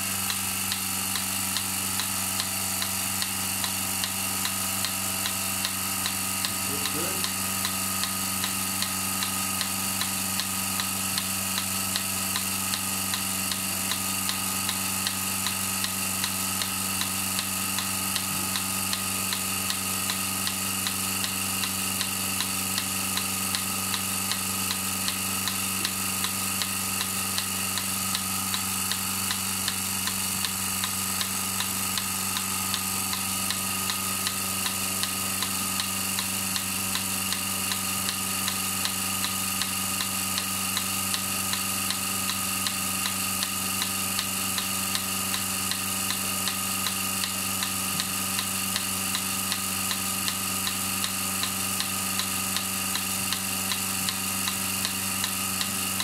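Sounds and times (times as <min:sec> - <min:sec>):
vacuum pump motor hum: 0:00.0 - 0:56.0
pulsator clicking: 0:00.2 - 0:56.0.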